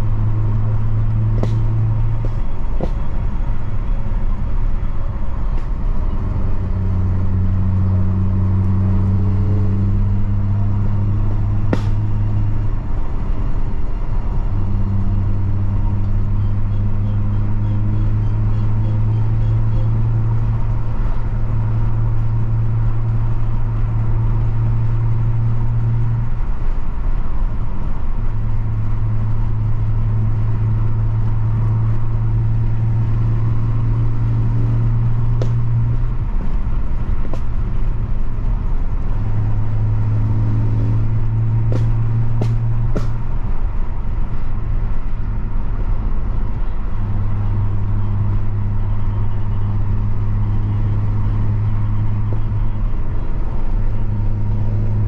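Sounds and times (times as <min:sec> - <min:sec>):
car engine droning: 0:00.0 - 0:55.0
road and tyre noise: 0:00.0 - 0:55.0.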